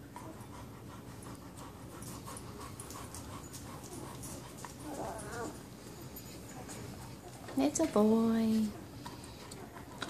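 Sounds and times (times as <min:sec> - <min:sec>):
puppies breathing rhythmically: 0:00.0 - 0:10.0.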